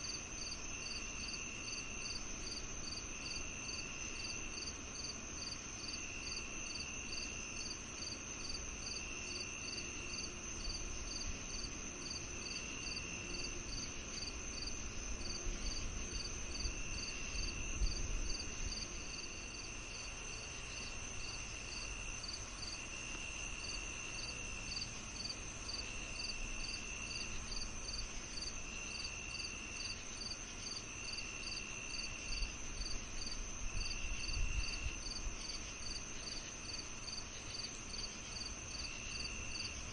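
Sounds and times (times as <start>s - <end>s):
cricket chirps: 0.0s - 39.9s
lower insect trill: 0.0s - 39.9s
steady high insect trill: 0.0s - 39.9s.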